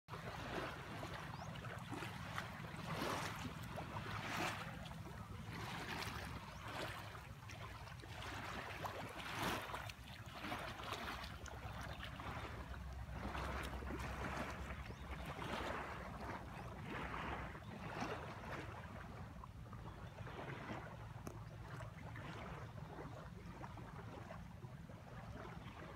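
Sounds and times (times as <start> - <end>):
water splashing against boat hull: 0.1 - 25.9.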